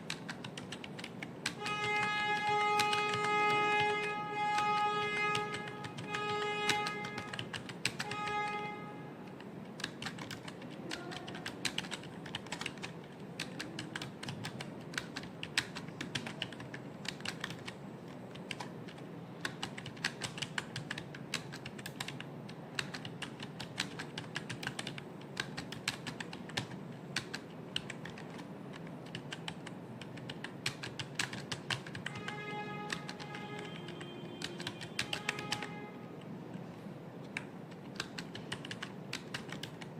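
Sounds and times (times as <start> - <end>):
fast typing on keyboard: 0.0 - 8.6, 9.3 - 35.7, 37.3 - 39.9.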